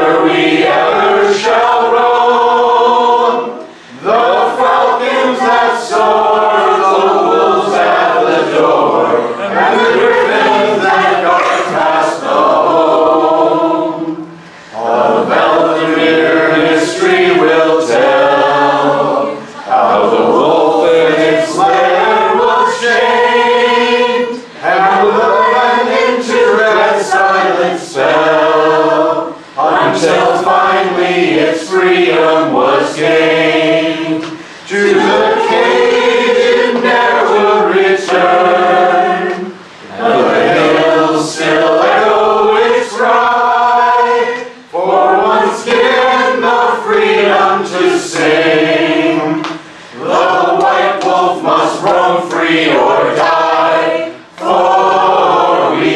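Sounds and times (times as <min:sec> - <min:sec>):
group singing a cappella: 0:00.0 - 0:55.9.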